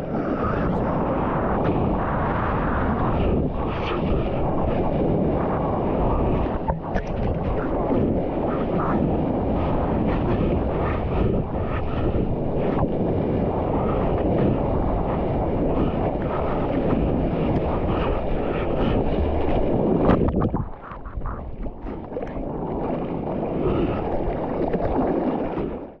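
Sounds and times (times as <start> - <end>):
wind buffeting microphone: 0.0 - 26.0
water rushing and splashing: 1.3 - 12.9, 13.7 - 26.0.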